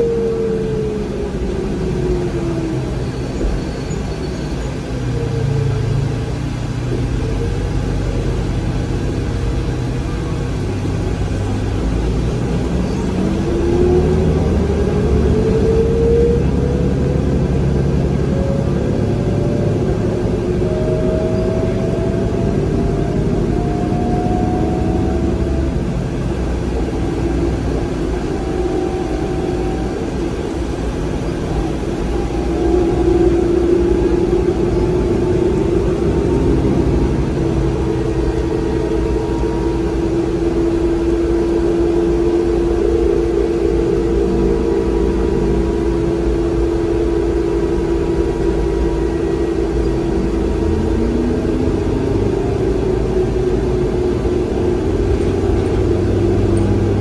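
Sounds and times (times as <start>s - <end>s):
bus interior rumble: 0.0s - 57.0s
rising motor whine: 0.0s - 57.0s.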